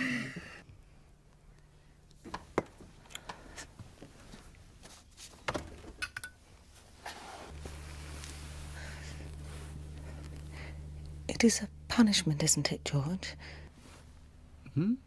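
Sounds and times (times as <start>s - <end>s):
low steady hum: 0.0s - 5.0s, 7.5s - 15.0s.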